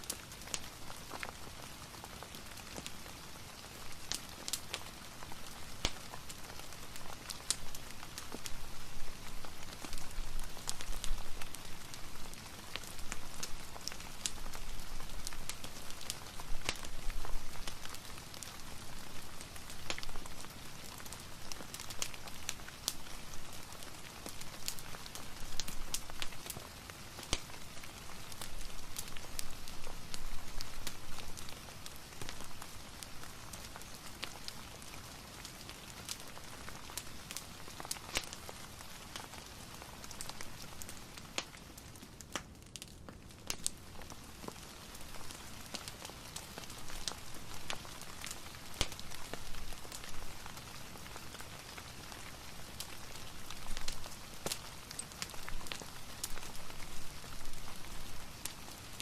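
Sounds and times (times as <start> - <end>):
rain falling: 0.0 - 42.0, 42.7 - 59.0
fireplace crackling: 0.0 - 59.0.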